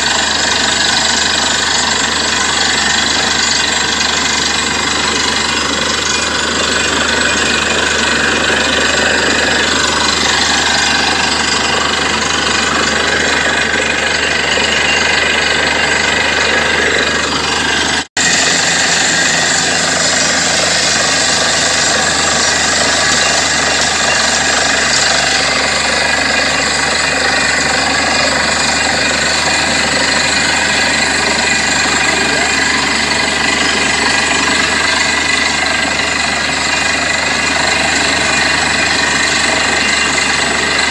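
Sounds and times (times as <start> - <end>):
drilling rig running: 0.0 - 40.9.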